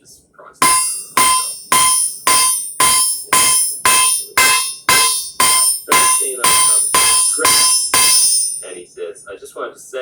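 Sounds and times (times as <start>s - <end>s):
hammer ringing on an anvil: 0.6s - 8.8s.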